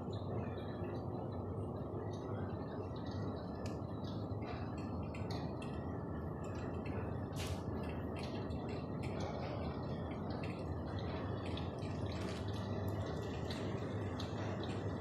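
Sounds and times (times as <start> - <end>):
faint crackles and ticks: 2.0 - 15.0.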